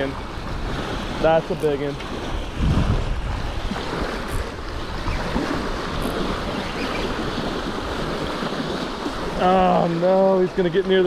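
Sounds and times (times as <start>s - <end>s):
waves splashing against rocks: 0.0s - 11.0s
wind buffeting microphone: 0.0s - 11.0s.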